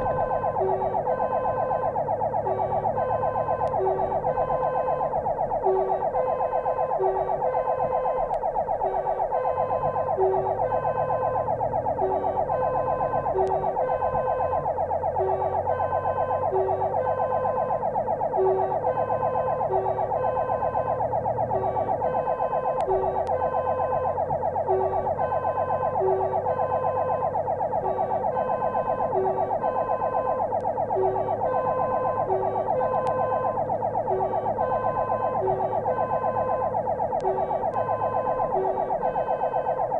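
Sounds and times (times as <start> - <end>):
fire engine siren warbling: 0.0 - 39.9
truck engine running: 0.0 - 39.9.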